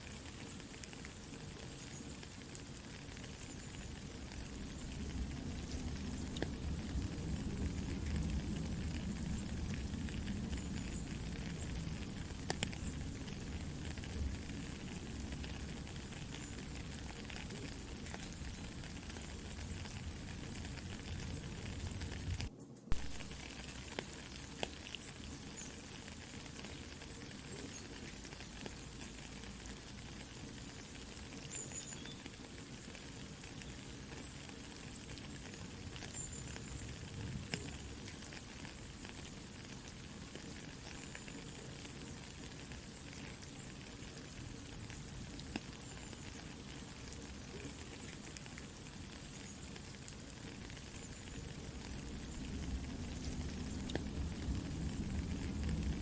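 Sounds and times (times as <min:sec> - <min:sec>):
campfire crackling: 0:00.0 - 0:56.0
soft steady rain: 0:00.0 - 0:56.0.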